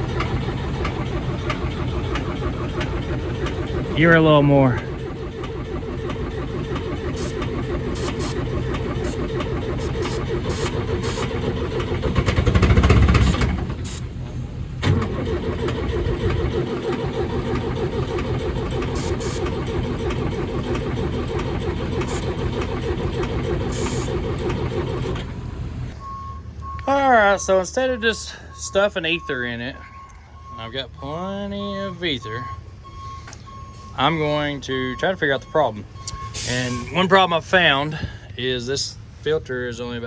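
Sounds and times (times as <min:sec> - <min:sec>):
diesel engine cranking and running: 0:00.0 - 0:40.0.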